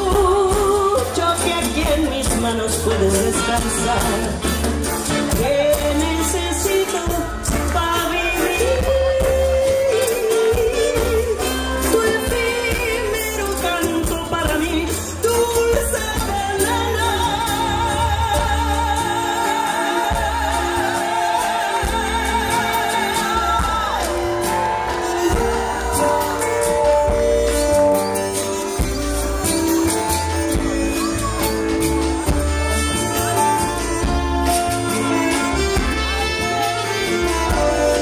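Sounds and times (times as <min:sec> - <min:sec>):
band playing: 0:00.0 - 0:38.0
steady bass: 0:00.0 - 0:38.0
woman singing with vibrato: 0:00.0 - 0:38.0.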